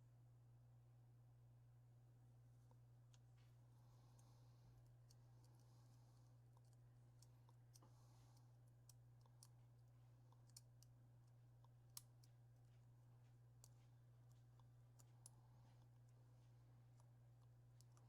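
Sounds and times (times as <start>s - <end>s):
steady low hum: 0.0s - 18.0s
small clicks of tweezers and parts: 2.6s - 18.0s.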